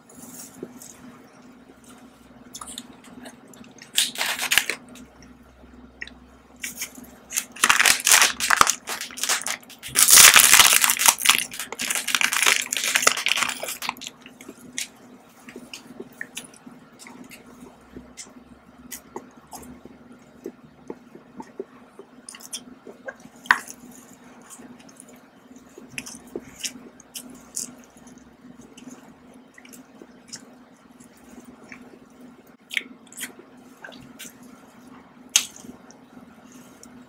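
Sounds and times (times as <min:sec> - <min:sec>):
faint steady hum: 0:00.0 - 0:37.0
person chewing with wet mouth sounds: 0:00.1 - 0:37.0.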